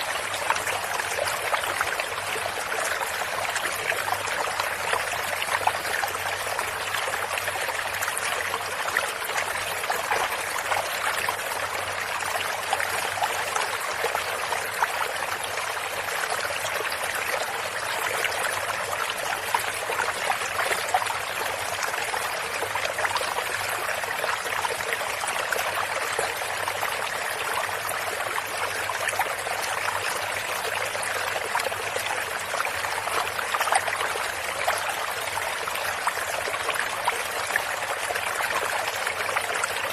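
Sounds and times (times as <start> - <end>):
water trickling in a stream: 0.0 - 39.9.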